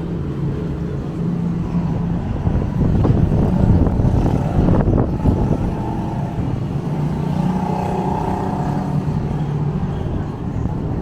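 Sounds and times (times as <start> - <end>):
vehicle engine humming: 0.0 - 11.0
wind buffeting microphone: 0.0 - 11.0.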